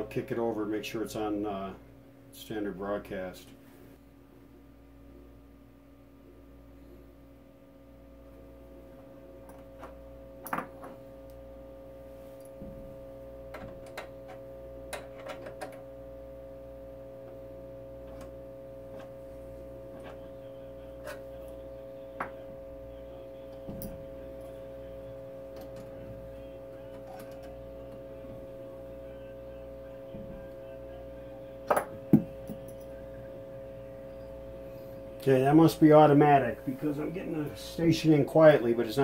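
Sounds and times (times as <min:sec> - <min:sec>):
radio speaker hum: 0:06.1 - 0:39.0.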